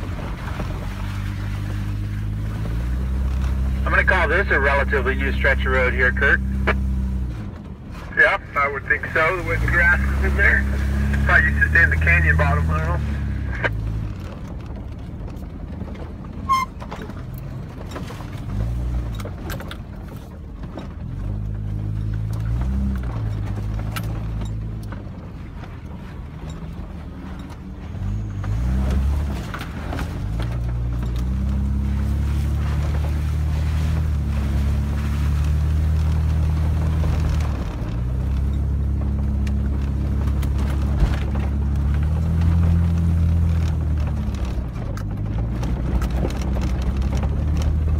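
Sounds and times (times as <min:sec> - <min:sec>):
engine heard from inside cabin: 0:00.0 - 0:47.9
vehicle clicks and rattles: 0:00.0 - 0:47.9.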